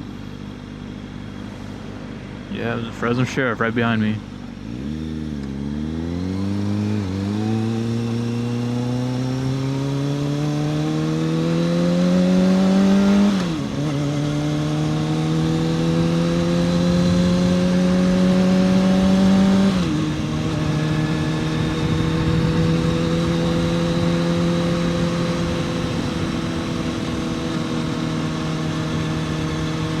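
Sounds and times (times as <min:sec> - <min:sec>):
motorcycle engine accelerating: 0:04.3 - 0:30.0.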